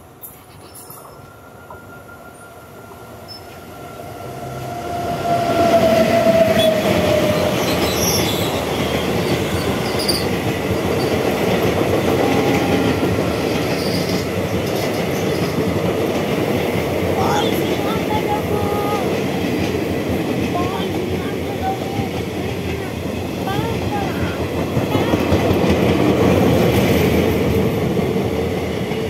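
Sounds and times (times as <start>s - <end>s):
electric locomotive passing: 0.0s - 29.0s
falling whine of locomotive: 0.9s - 29.0s
train wheels clattering on rails: 5.2s - 29.0s.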